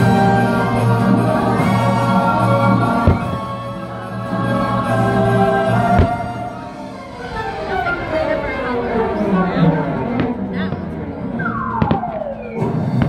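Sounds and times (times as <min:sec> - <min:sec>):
choir with orchestral music: 0:00.0 - 0:13.0.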